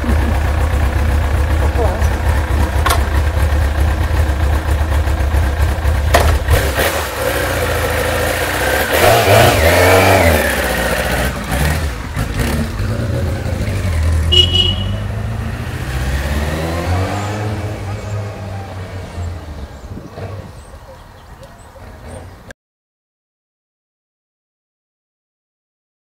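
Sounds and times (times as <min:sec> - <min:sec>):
motorcycle engine idling and revving: 0:00.0 - 0:22.5.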